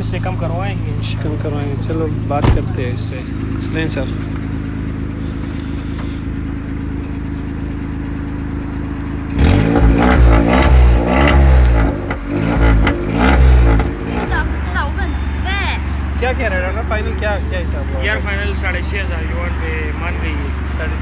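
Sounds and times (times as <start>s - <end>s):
small car engine idling and revving: 0.0s - 21.0s.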